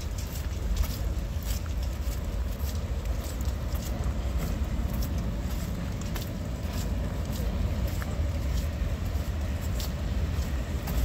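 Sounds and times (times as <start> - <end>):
raindrops tapping pavement: 0.0 - 10.1
city traffic rumble: 0.0 - 11.0.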